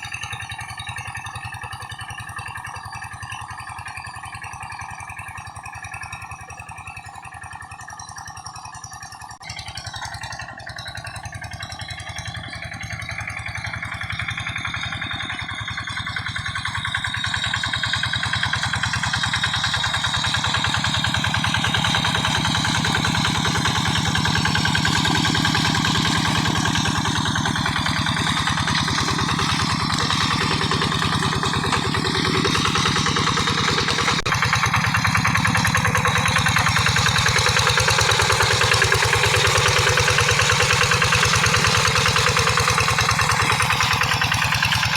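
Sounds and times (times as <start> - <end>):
hand tractor engine running: 0.0 - 44.9.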